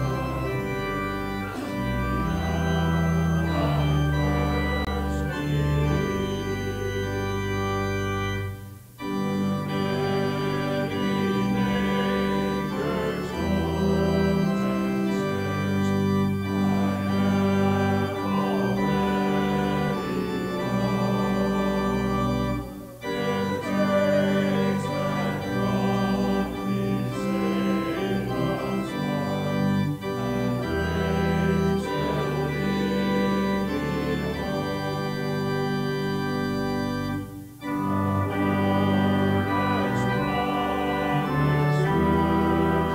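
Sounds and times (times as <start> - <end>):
church organ playing chords: 0.0 - 42.9.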